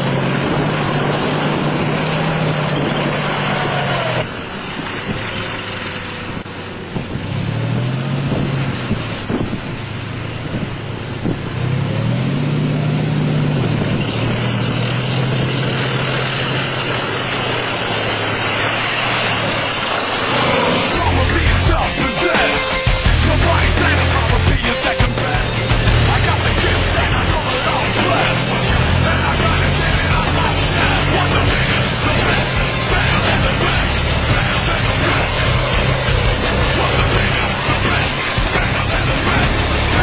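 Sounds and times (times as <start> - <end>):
tank diesel engine revving: 0.0 - 40.0.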